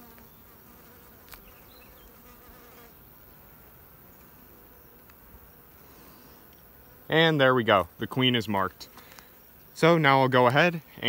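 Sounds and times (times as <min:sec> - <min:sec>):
bees buzzing faintly: 0:00.0 - 0:11.0.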